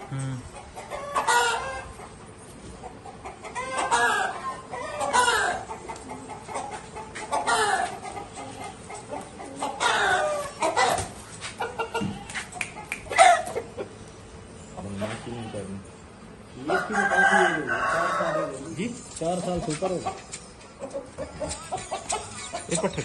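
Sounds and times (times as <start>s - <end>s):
roosters clucking and calling: 0.0s - 23.0s.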